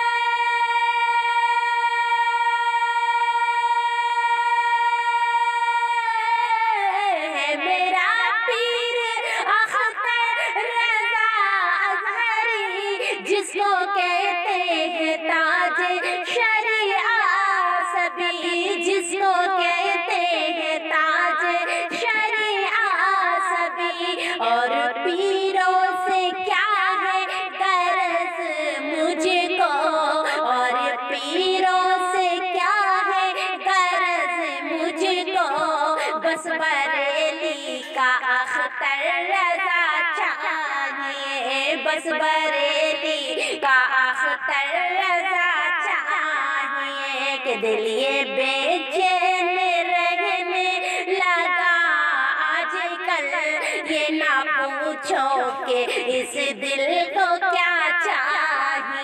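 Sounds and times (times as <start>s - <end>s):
woman singing: 0.0s - 59.0s.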